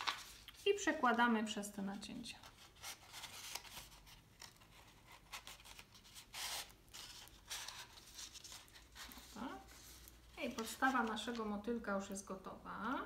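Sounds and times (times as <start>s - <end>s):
card and paper rustling: 0.0s - 1.4s, 2.2s - 11.8s.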